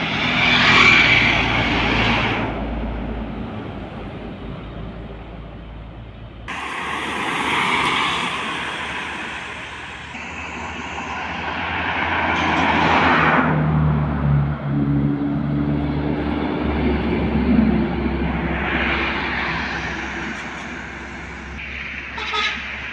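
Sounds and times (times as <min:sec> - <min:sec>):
diesel trucks passing: 0:00.0 - 0:22.9
engine hum close by: 0:00.0 - 0:22.9.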